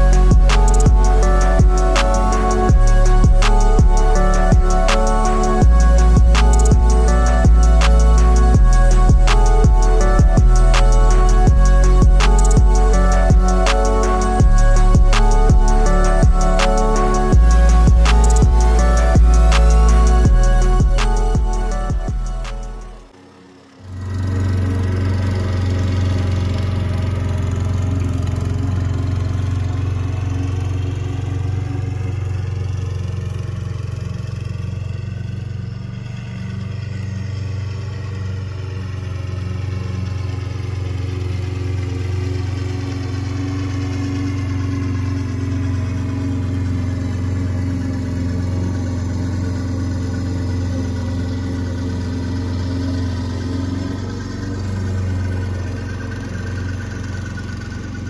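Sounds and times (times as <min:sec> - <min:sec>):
lawn mower running: 0:00.0 - 0:58.0.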